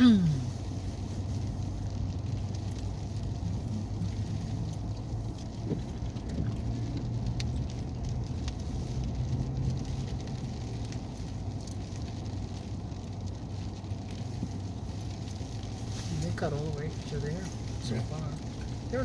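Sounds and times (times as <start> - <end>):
vehicle engine and road drone: 0.0 - 19.0
light ticks and rattles: 0.7 - 19.0.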